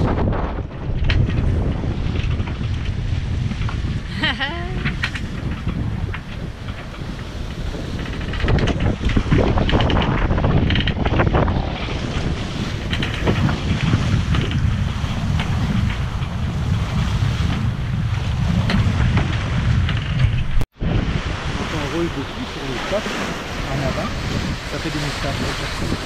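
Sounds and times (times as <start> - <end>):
waves splashing along hulls: 0.0 - 26.0
wind buffeting microphone: 0.0 - 26.0.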